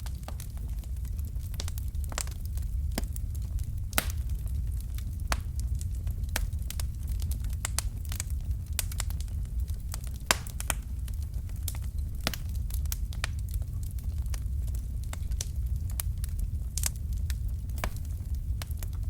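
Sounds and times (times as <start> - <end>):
fire crackling: 0.0 - 19.0
low rumble of fire: 0.0 - 19.0.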